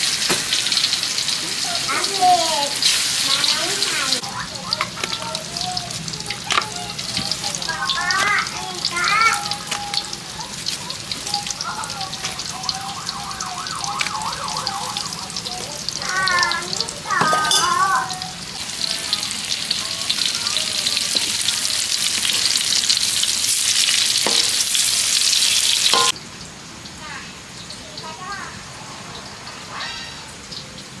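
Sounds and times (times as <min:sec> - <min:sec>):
fritters sizzling in hot oil: 0:00.0 - 0:31.0.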